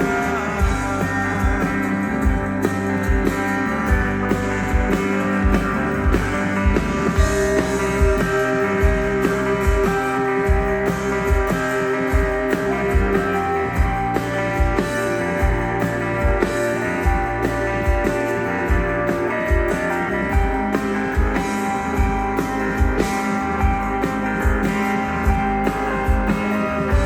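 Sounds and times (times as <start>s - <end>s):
electric guitar melodic lines: 0.0s - 27.0s
steady drum beat: 0.0s - 27.0s.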